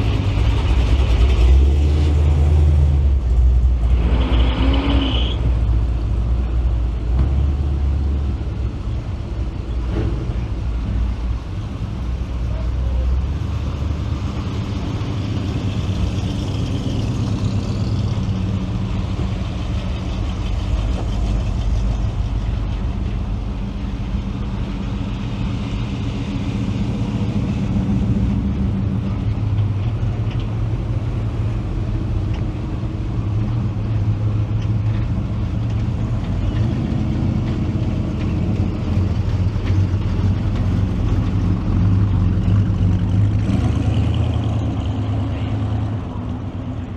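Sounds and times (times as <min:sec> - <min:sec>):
car engines rumbling: 0:00.0 - 0:46.9.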